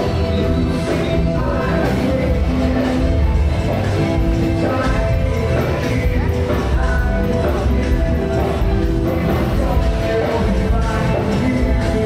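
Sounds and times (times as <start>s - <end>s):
loud rock music with heavy bass: 0.0s - 12.0s.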